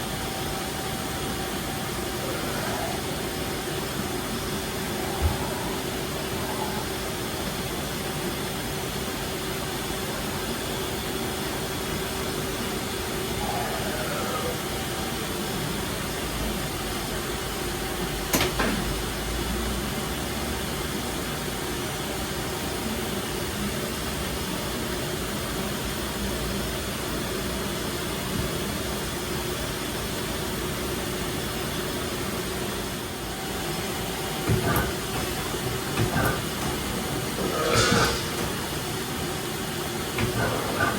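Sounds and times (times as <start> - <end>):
lathe mechanical hum and whine: 0.0 - 40.9.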